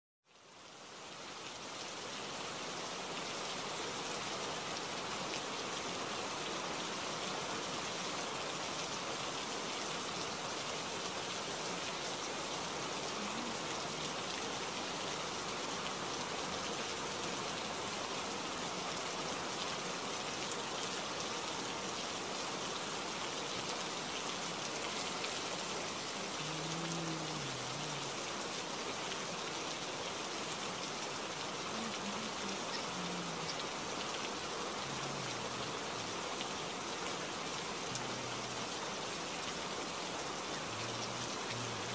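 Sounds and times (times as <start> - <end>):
steady rain falling: 0.2 - 41.9.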